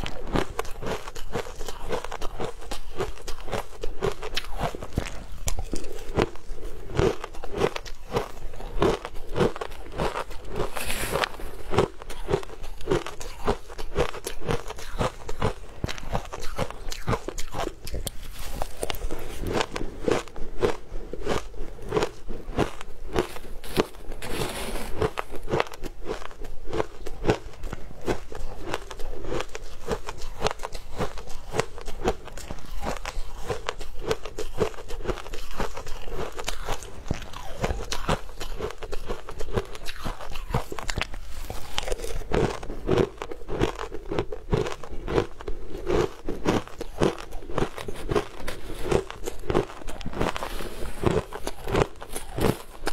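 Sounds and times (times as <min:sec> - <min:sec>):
ice crunching between teeth: 0:00.0 - 0:52.9.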